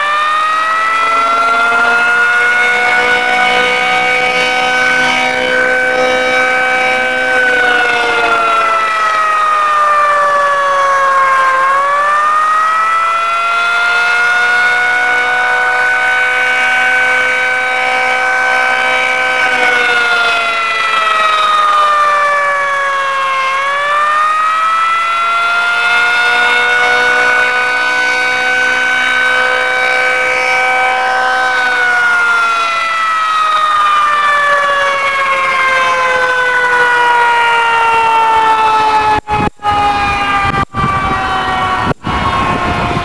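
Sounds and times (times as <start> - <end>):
outdoor warning siren steady chord: 0.0 - 43.0.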